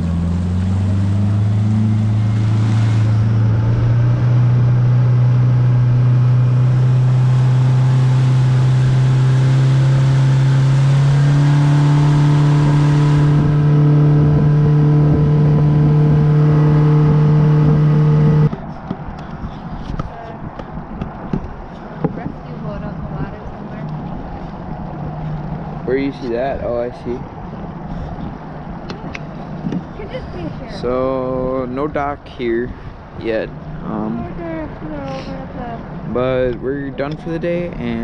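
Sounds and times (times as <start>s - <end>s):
outboard motor running: 0.0s - 31.1s.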